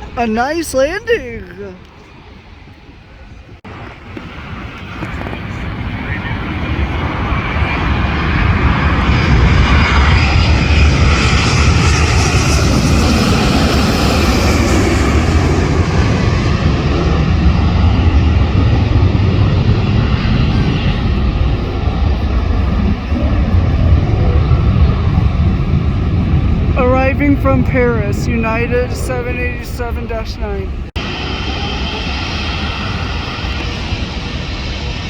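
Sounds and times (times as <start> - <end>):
jet airliner passing overhead: 0.0 - 35.0.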